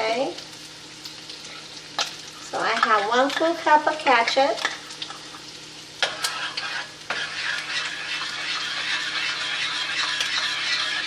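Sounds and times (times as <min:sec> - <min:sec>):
sizzling hiss: 0:00.0 - 0:11.0.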